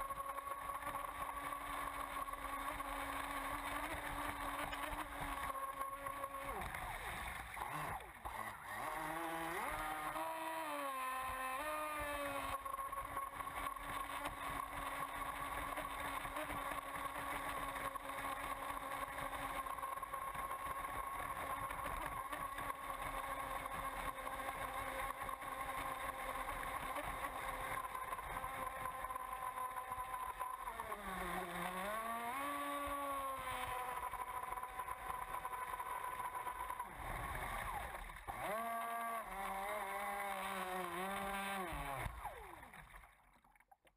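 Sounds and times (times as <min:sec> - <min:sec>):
boat motor high-pitched whine: 0:00.0 - 0:43.3.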